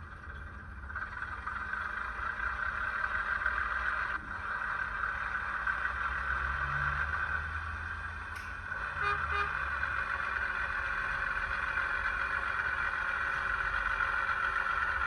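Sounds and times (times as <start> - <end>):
diesel engine through small speaker: 0.0 - 15.0.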